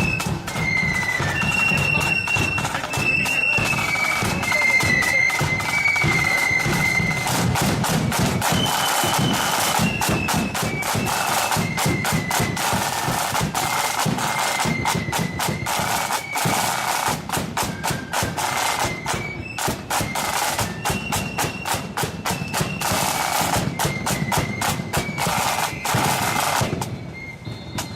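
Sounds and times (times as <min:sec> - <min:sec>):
flutes playing high melody: 0:00.0 - 0:27.9
snare drums rolling: 0:00.0 - 0:27.9.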